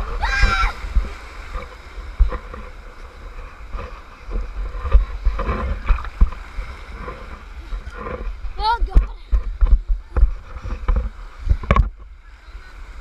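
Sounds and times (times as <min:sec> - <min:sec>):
water splashing against raft: 0:00.0 - 0:13.0
wind buffeting microphone: 0:00.0 - 0:13.0.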